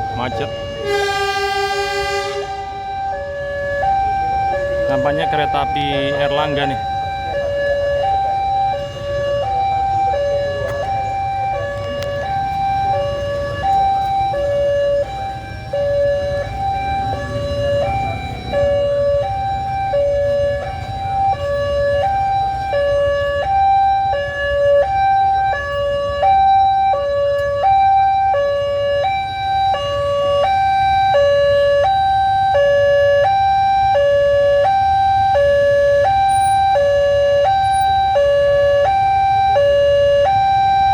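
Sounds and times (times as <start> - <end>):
low traffic rumble: 0.0 - 40.9
two-tone crossing alarms: 0.0 - 40.9.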